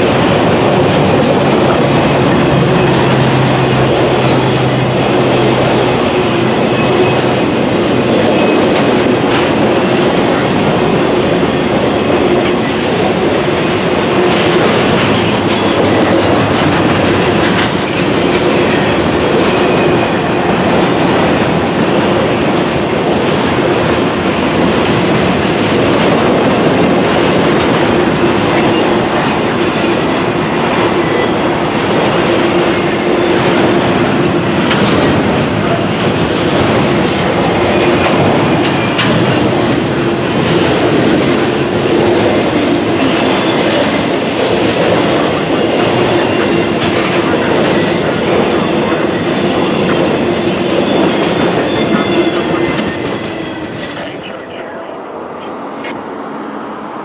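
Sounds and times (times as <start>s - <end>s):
wheels clicking over rail joints: 0.0s - 53.5s
freight train wheels rumbling: 0.0s - 57.0s.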